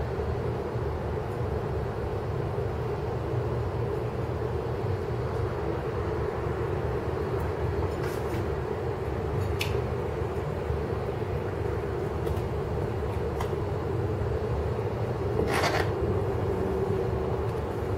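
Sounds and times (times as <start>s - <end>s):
low mechanical rumble: 0.0s - 17.9s.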